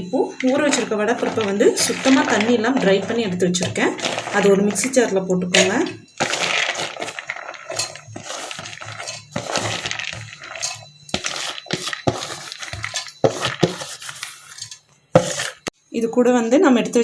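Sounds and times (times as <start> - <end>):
grains rattling into a jar: 0.3 - 15.6.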